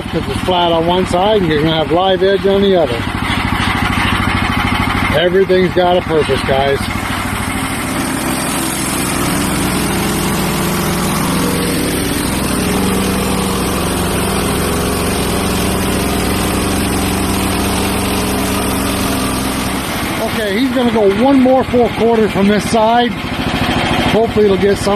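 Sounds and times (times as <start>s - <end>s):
gasoline engine running: 0.0s - 24.9s
saw cutting log: 0.0s - 24.9s.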